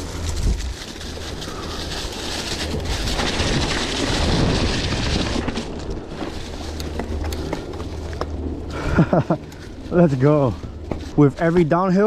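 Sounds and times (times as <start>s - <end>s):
bike tyres crunching dry leaves: 0.0s - 12.0s
low rumble: 0.0s - 12.0s.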